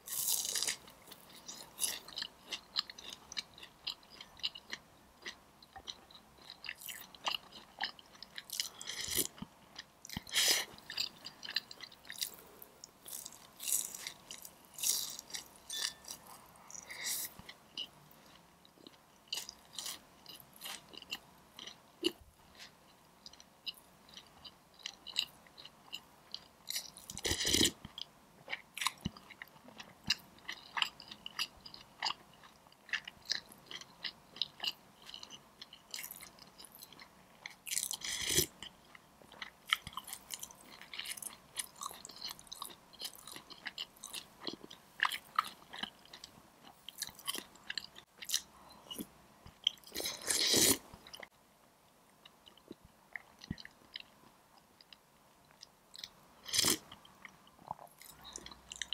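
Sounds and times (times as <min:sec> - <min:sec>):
chewing food: 0:00.1 - 0:51.3, 0:52.2 - 0:58.9.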